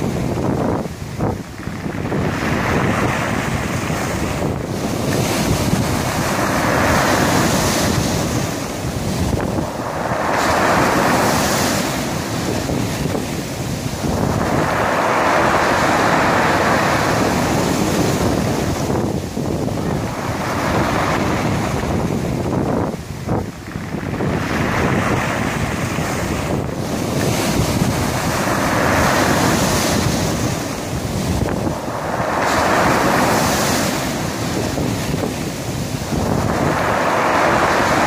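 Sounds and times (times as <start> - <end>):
sea waves on pebble beach: 0.0 - 38.0
wind buffeting microphone: 0.0 - 38.0.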